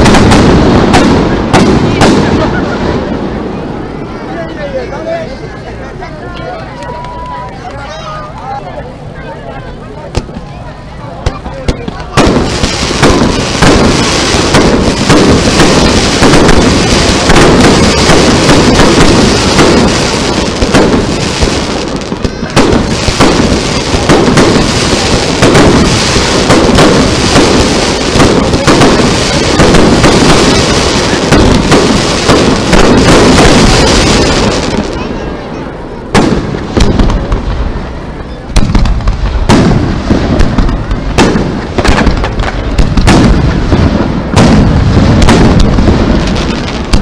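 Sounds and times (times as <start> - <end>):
fireworks bursting: 0.0 - 5.4, 10.0 - 47.0.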